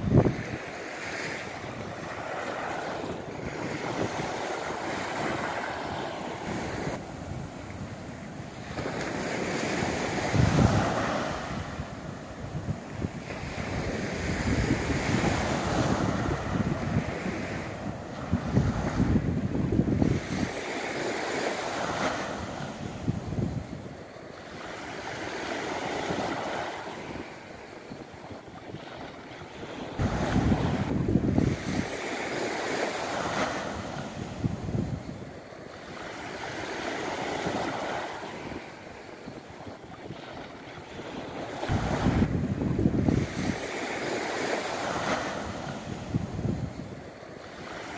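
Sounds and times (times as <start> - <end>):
sea waves washing ashore: 0.0 - 47.9
wind buffeting microphone: 0.0 - 47.9.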